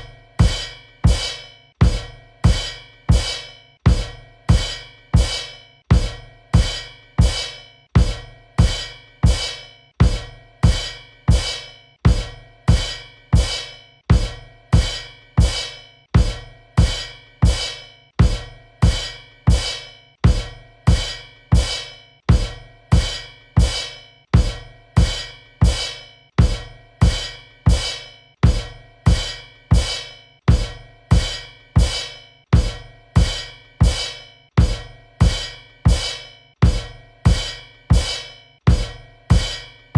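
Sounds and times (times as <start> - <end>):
bass drum and cymbal hits: 0.0 - 39.9.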